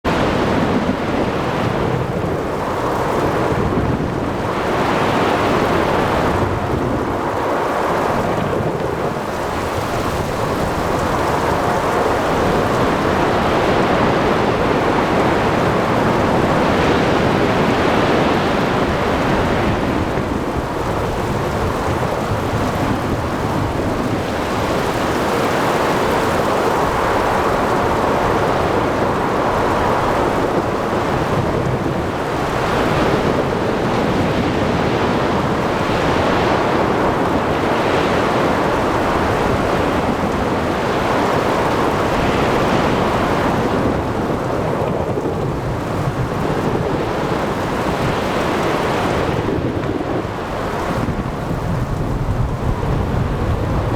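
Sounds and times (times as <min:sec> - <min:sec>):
waves breaking: 0:00.0 - 0:53.9
wind: 0:00.0 - 0:53.9
heavy rain: 0:00.1 - 0:53.9.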